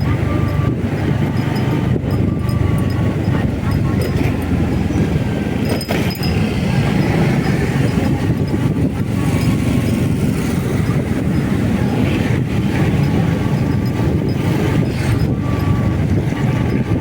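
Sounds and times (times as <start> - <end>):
motorcycle engine rumble: 0.0 - 17.0
wind noise on microphone: 0.0 - 17.0.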